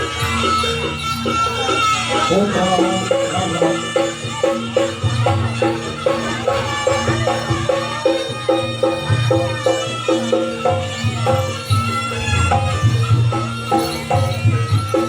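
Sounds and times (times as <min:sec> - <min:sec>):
gamelan struck tones: 0:00.0 - 0:15.0.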